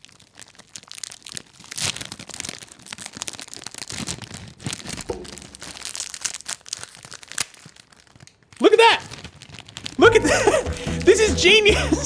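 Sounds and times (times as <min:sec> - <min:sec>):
foil packet crinkling: 0:00.0 - 0:11.8.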